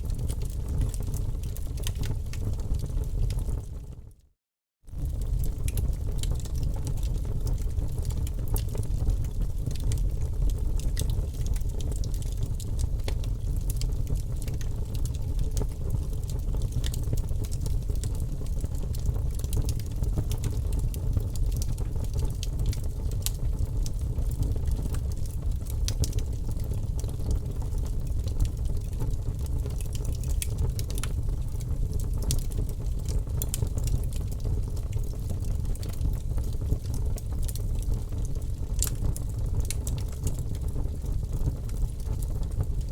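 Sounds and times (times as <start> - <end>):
wood fire crackling: 0.0 - 3.8, 5.0 - 42.9.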